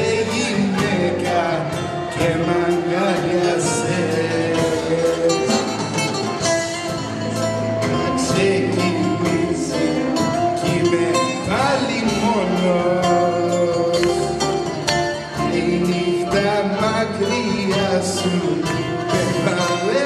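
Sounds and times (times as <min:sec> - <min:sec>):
bouzouki playing dance music: 0:00.0 - 0:20.0
person singing: 0:00.0 - 0:20.0.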